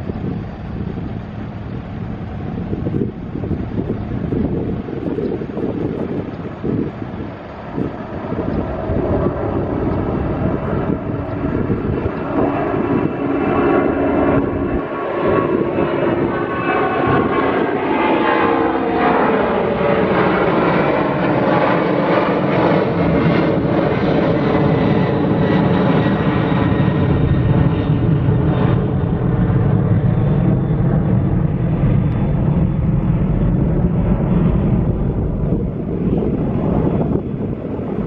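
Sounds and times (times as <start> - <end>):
jet airliner climbing overhead: 0.0 - 38.0.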